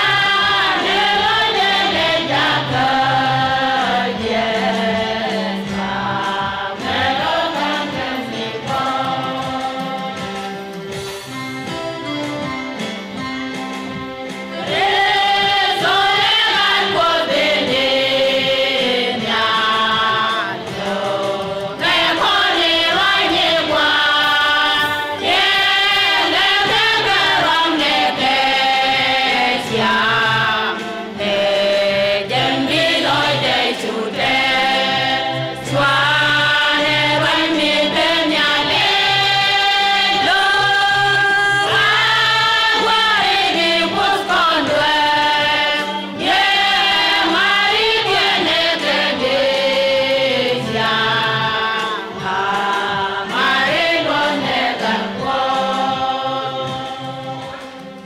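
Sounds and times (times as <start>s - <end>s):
women's choir singing gospel: 0.0s - 58.0s.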